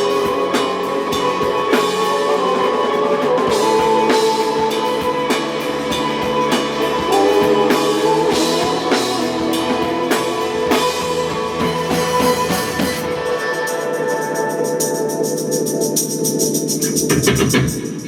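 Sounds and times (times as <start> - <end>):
electric guitars: 0.0 - 16.8
bass: 0.0 - 18.0
drum kit: 0.0 - 18.0.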